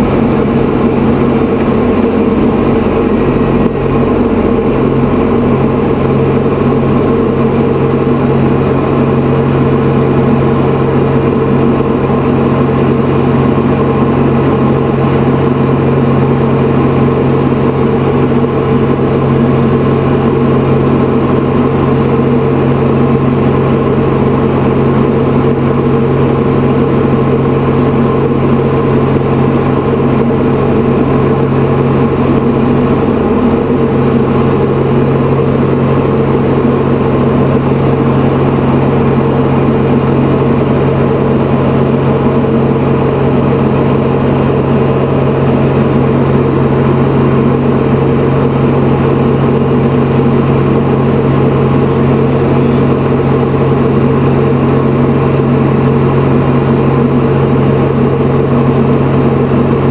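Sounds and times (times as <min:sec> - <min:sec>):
airplane engine drone in cockpit: 0:00.0 - 0:59.9.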